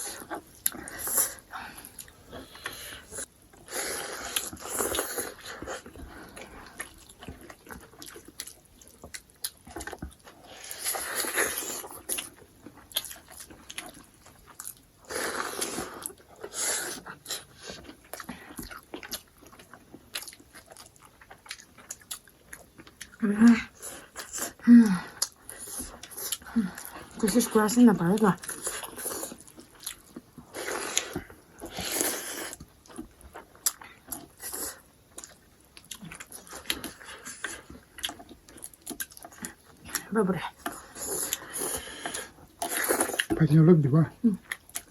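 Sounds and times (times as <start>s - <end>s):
biting and wet chewing: 0.0s - 44.9s.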